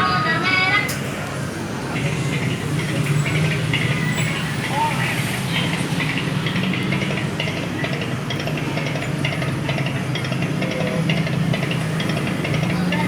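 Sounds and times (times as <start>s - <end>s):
rhythmic rattle: 1.9s - 13.0s.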